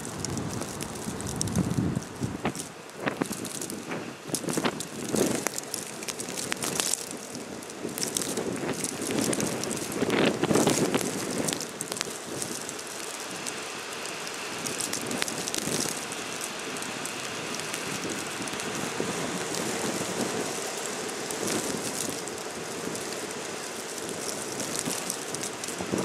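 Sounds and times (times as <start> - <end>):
blizzard wind blowing: 0.0 - 26.0
snow hissing and ticking: 0.0 - 26.0.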